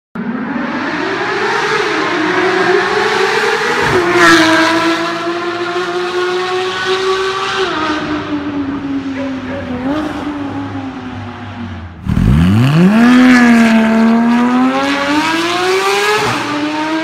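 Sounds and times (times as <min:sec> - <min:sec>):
sports car engine at high revs: 0:00.4 - 0:17.0.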